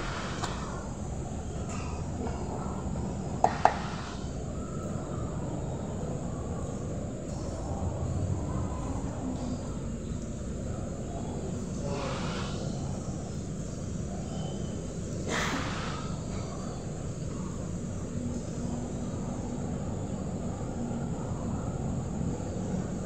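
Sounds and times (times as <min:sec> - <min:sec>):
low outdoor background noise: 0:00.0 - 0:23.0.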